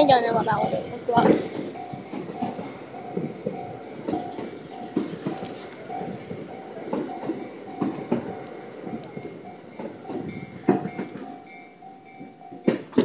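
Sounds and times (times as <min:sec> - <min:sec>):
level crossing bell ringing: 0:00.0 - 0:13.0
train wheels clacking: 0:00.0 - 0:13.0.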